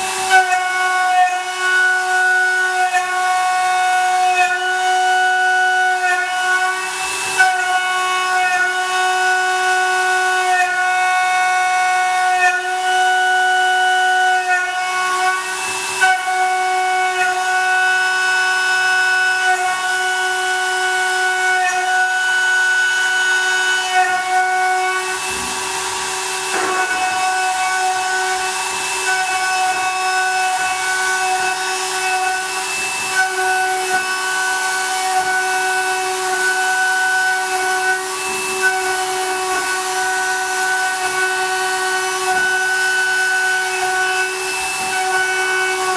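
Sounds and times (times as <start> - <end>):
milling machine cutting metal: 0.0 - 45.9.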